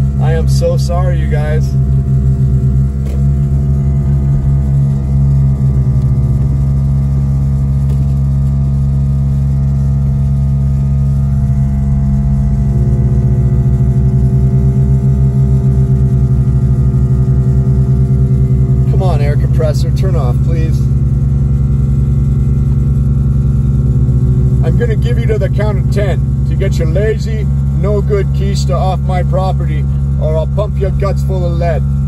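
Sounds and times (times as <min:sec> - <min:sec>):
air compressor running: 0:00.0 - 0:32.0
vehicle cabin hum: 0:00.0 - 0:32.0.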